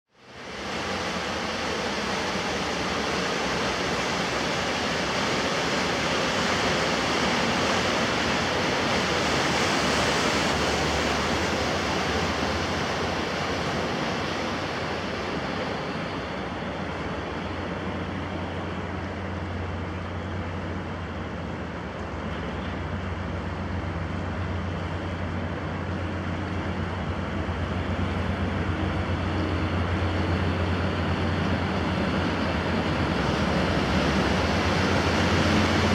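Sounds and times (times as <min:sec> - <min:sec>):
wind: 0:00.0 - 0:35.9
ship diesel engine drone: 0:00.1 - 0:35.9.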